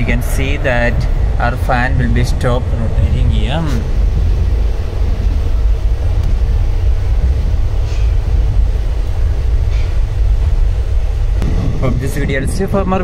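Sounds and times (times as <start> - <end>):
railway carriage rumbling: 0.0 - 13.0.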